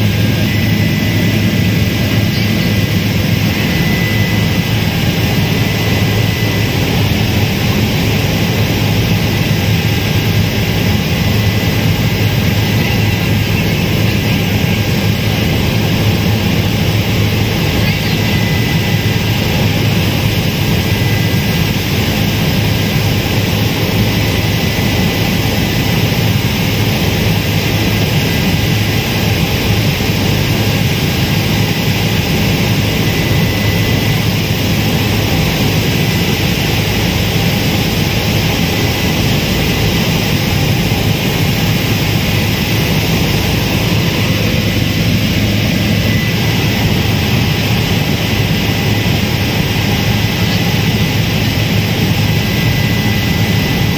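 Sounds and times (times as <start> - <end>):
helicopter engine and rotor: 0.0 - 53.9.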